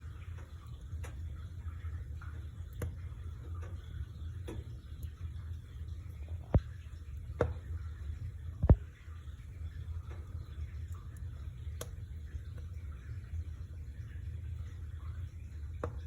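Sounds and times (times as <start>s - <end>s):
fire crackling and popping: 0.2s - 14.0s.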